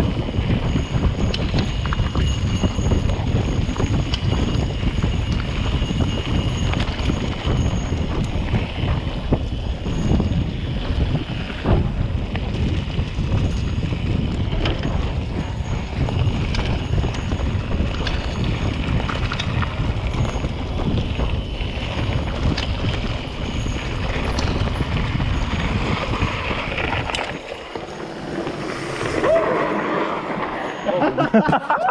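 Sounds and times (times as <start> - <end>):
bicycle tyres rolling on gravel: 0.0 - 31.3
bike clicks and rattles: 0.0 - 31.9
wind rushing over microphone: 0.0 - 31.9.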